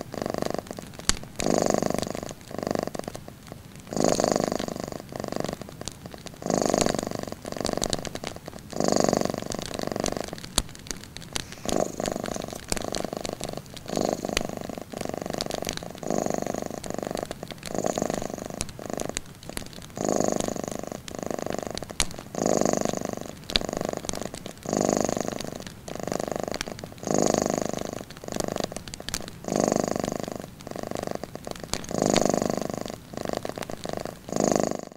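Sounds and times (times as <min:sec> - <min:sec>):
cat purring: 0:00.0 - 0:34.9
wood fire crackling: 0:00.0 - 0:34.9.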